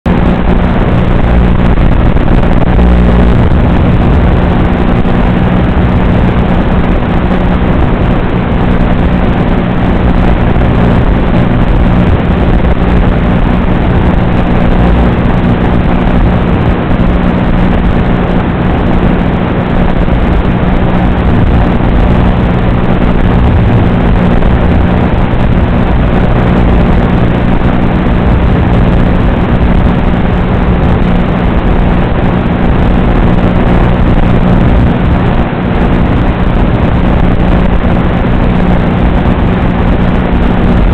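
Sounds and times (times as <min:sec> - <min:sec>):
constant low buzz: 0:00.1 - 0:40.9
static hiss: 0:00.1 - 0:40.9.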